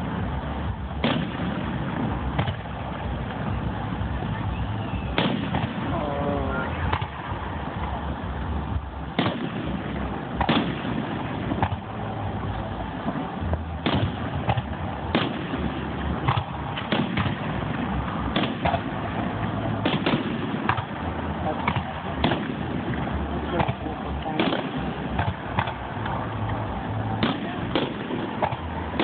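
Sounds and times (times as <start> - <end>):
fireworks bangs: 0.0 - 29.0
low rumble: 0.0 - 29.0.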